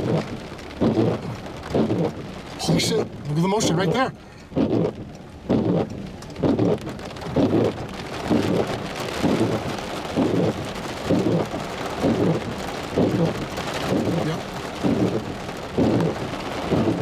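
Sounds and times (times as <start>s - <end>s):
heavy rain on car: 0.0s - 17.0s
windshield wipers swishing: 0.0s - 17.0s.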